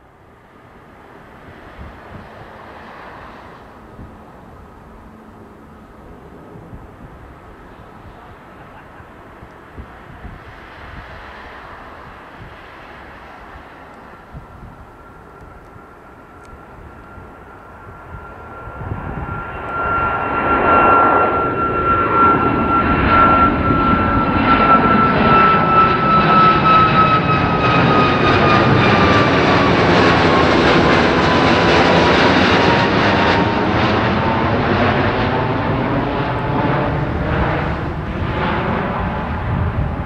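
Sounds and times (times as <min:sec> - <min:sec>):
jet engine roar: 0:00.0 - 0:40.0.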